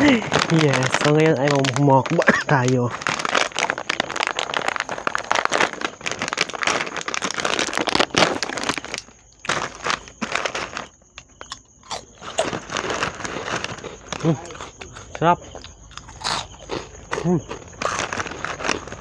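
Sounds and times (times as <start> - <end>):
plastic snack bag crinkling: 0.0 - 15.1, 15.9 - 19.0.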